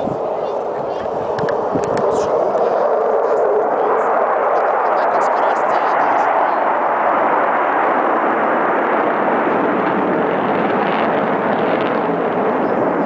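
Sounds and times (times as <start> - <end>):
jet engines passing overhead: 0.0 - 13.0.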